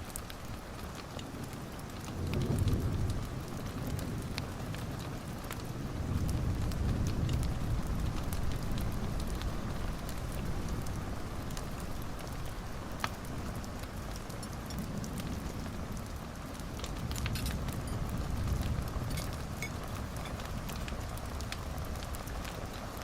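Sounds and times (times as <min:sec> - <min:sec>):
fire crackling: 0:00.0 - 0:23.0
fire popping: 0:00.0 - 0:23.0
flames rushing: 0:00.0 - 0:23.0.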